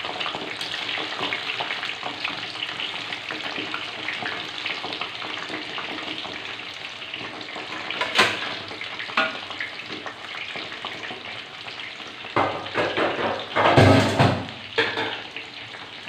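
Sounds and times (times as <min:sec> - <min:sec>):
food frying in hot oil: 0:00.0 - 0:16.0.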